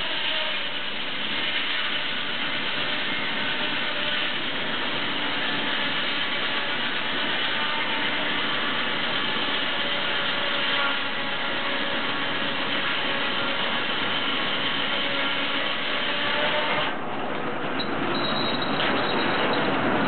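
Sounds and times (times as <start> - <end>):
circular saw ripping log: 0.0 - 16.9.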